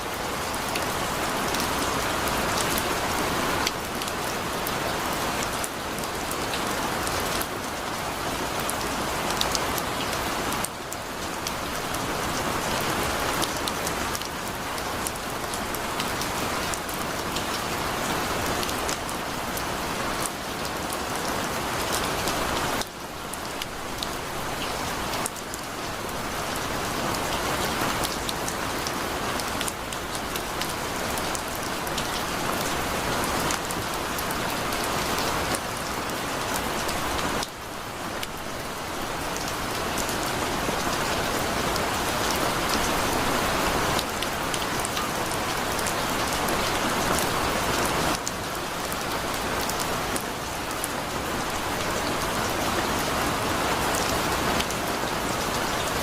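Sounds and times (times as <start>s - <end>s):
heavy rain falling: 0.0s - 56.0s
raindrops striking a surface: 0.0s - 56.0s.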